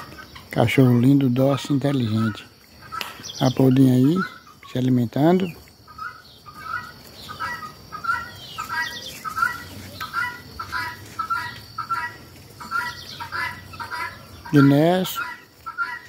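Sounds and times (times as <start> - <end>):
guineafowl calling: 0.0 - 16.0.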